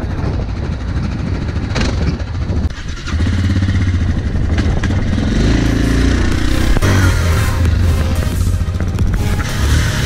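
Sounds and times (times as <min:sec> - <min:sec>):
atv engine idling and revving: 0:00.0 - 0:10.0.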